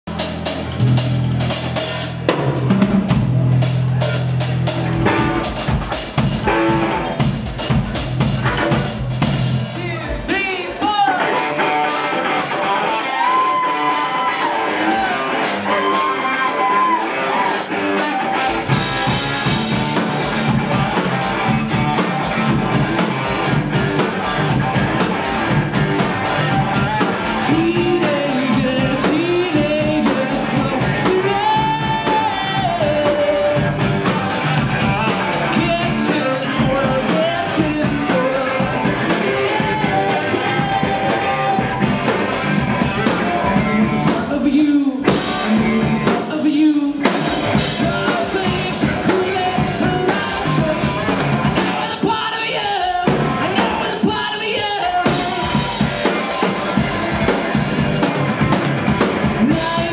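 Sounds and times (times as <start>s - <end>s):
rock band playing: 0.0s - 59.9s
electric guitar bending lead notes: 0.1s - 10.3s, 11.0s - 46.2s, 55.0s - 59.9s.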